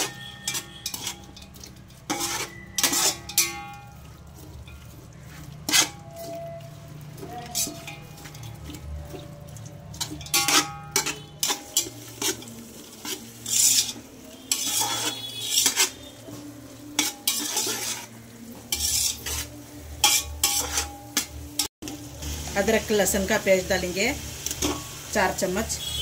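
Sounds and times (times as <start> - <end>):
metal spoon scraping metal pot: 0.0 - 21.7
onions sizzling in hot oil: 0.0 - 26.0.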